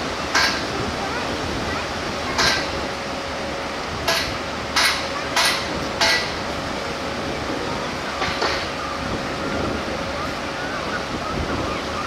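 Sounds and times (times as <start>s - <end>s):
surf washing: 0.0s - 12.0s.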